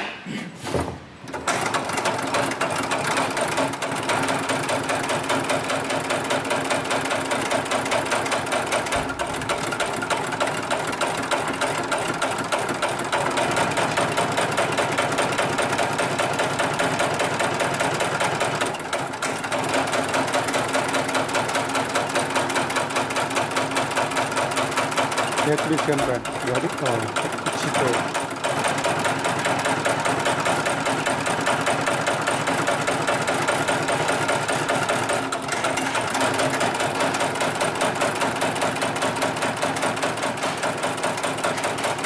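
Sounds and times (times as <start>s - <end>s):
sewing machine stitching: 1.2s - 42.0s
sewing machine knocks: 1.3s - 42.0s.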